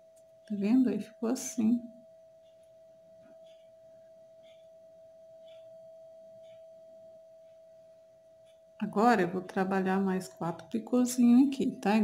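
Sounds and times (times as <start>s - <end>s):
faint steady hum: 0.0s - 12.0s
soft faint ticks: 2.0s - 11.7s.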